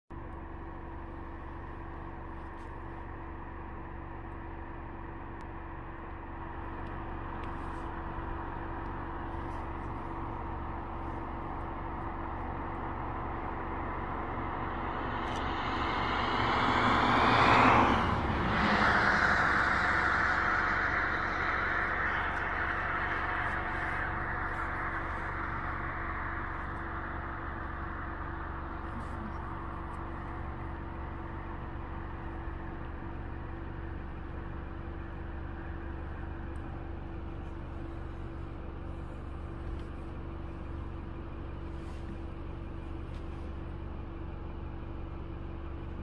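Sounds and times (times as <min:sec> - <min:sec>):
steady low hum: 0:00.1 - 0:46.0
vehicle passing on road: 0:01.0 - 0:43.9.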